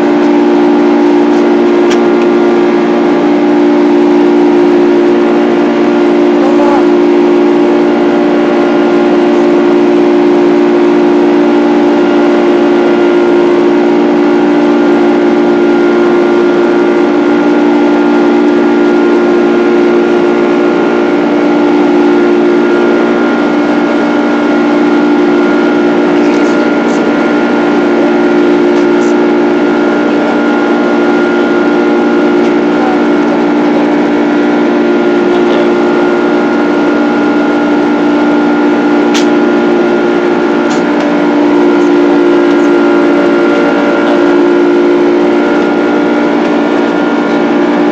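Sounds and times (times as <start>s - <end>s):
high engine whine: 0.0s - 47.9s
jet engine drone in cabin: 0.0s - 47.9s.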